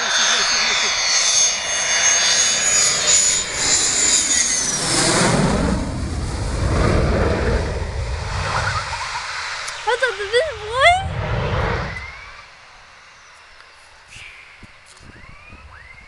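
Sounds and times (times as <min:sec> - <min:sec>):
jet engine passing overhead: 0:00.0 - 0:16.0.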